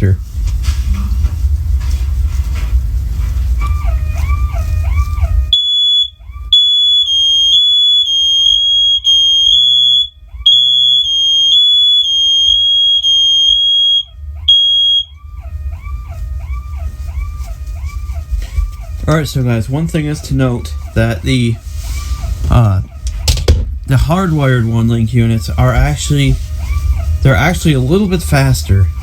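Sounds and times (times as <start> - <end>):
smoke alarms beeping: 3.5 - 29.0
warbling tone: 3.6 - 29.0.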